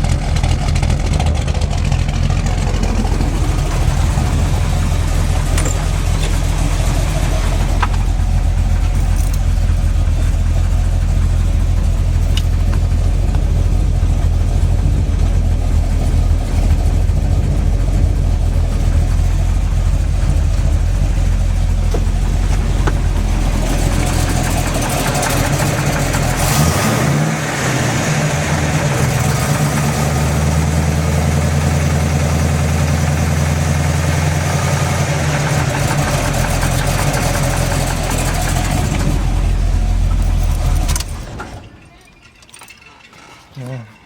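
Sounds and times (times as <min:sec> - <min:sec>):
engine knocking: 0:00.0 - 0:41.4
car engine idling and revving: 0:00.0 - 0:41.8.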